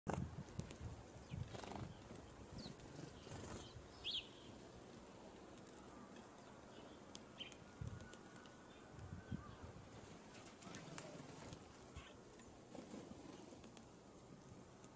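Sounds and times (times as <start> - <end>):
background hiss: 0.2 - 14.9.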